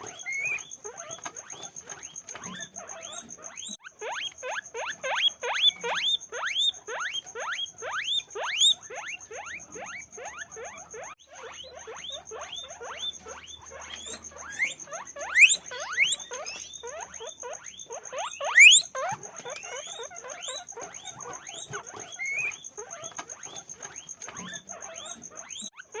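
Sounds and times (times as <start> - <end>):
guinea pigs squeaking: 0.0 - 26.0.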